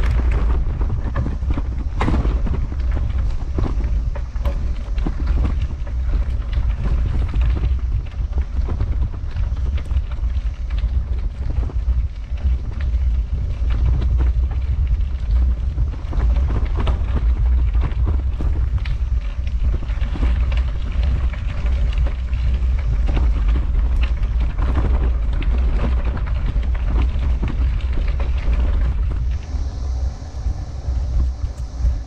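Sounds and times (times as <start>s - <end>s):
bicycle tyres crunching on gravel: 0.0s - 32.0s
wind rumble on microphone: 0.0s - 32.0s.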